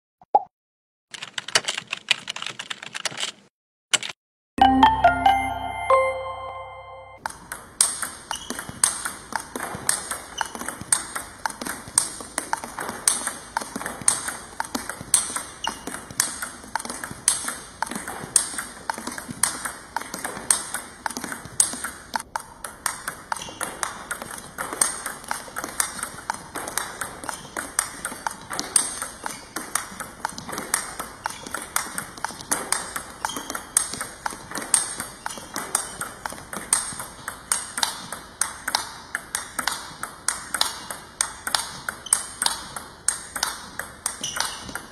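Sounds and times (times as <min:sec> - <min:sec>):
table tennis ball clicks: 0:07.3 - 0:44.9.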